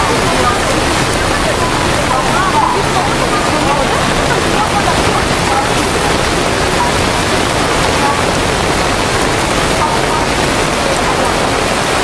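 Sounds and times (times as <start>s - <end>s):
rushing water in torrential rain: 0.0s - 12.0s.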